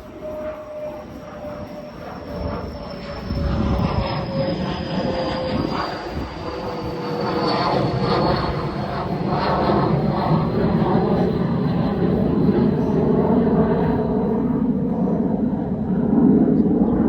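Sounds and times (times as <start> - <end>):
aircraft passing overhead: 0.0 - 17.0.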